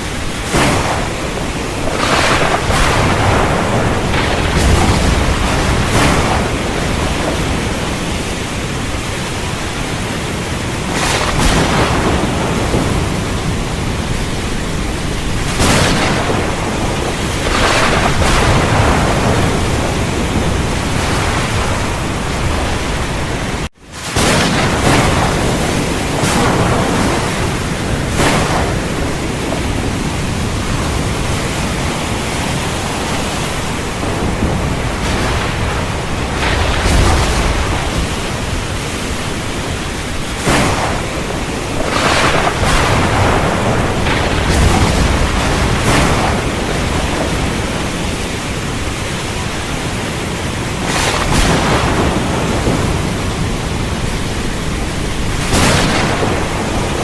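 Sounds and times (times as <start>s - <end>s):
heavy rain falling: 0.0s - 57.0s
thunderclaps: 0.0s - 57.0s.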